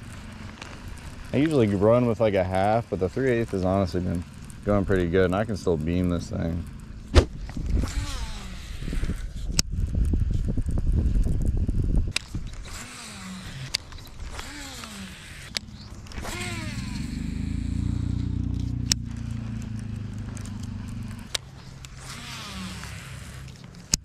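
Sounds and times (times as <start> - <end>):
fishing reel clicks: 0.0 - 24.0
low motor-like hum: 0.0 - 24.0.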